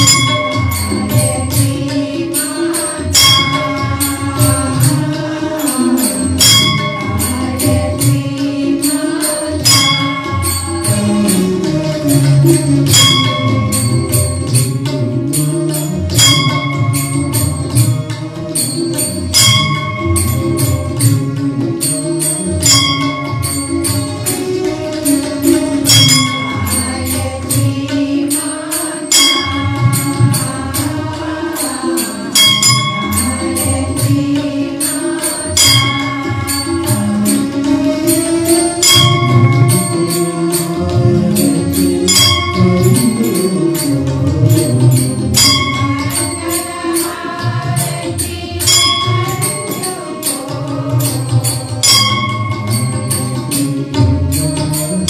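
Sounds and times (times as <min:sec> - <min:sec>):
group singing devotional chant: 0:00.0 - 0:55.0
instrumental music: 0:00.0 - 0:55.0
ringing metallic strike: 0:00.0 - 0:55.0.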